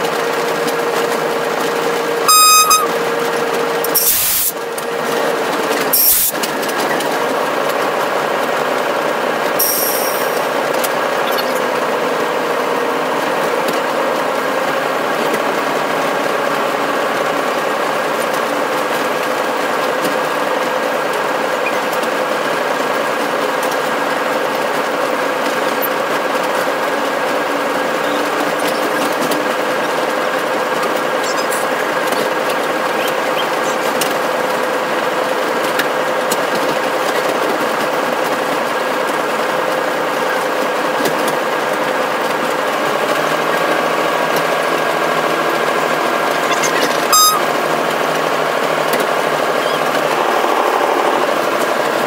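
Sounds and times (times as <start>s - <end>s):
locomotive mechanical drone: 0.0s - 52.0s.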